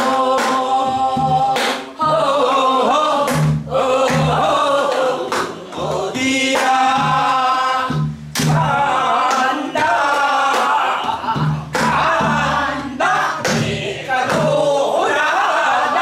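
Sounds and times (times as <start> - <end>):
group singing folk song: 0.0 - 16.0.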